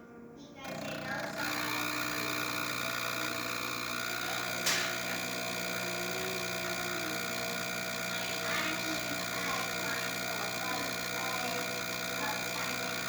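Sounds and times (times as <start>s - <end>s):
espresso machine pump humming: 0.6s - 13.0s.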